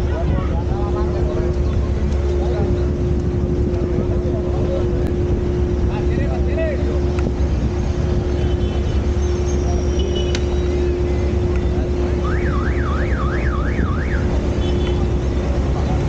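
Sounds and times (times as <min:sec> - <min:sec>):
constant hum: 0:00.0 - 0:16.0
traffic rumble: 0:00.0 - 0:16.0.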